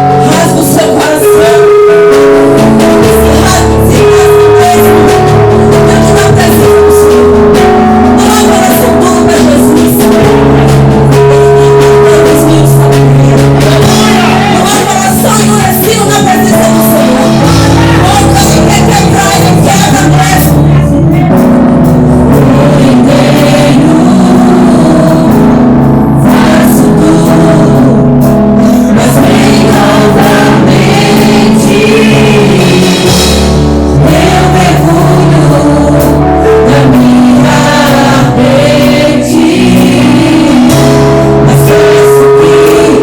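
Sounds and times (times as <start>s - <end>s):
band playing gospel music: 0.0s - 43.0s
congregation singing: 0.0s - 43.0s.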